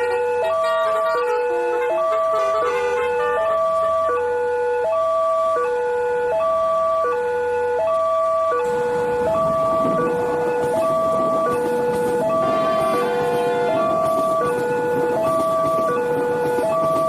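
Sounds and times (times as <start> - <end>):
two-tone warning siren: 0.0 - 17.0.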